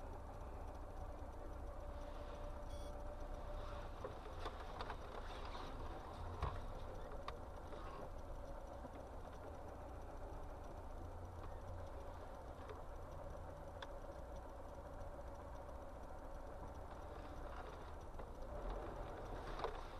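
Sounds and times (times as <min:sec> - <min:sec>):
car driving rumble: 0:00.0 - 0:19.9.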